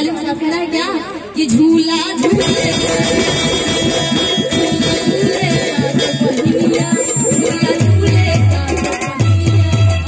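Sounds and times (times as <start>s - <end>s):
live band instrumental music: 1.4s - 10.0s.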